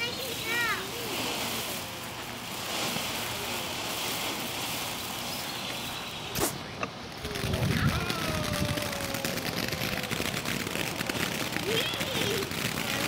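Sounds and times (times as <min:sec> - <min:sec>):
firework fountain hissing: 0:00.0 - 0:13.0
firework sharp crack: 0:00.0 - 0:13.0.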